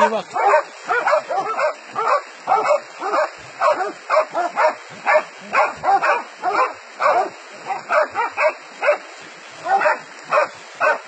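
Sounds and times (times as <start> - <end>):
dog barking: 0.4 - 9.0, 9.6 - 11.0.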